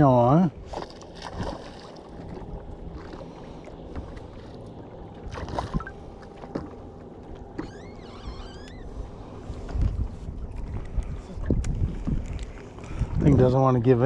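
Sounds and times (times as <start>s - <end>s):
wind and water wash: 0.0s - 14.0s.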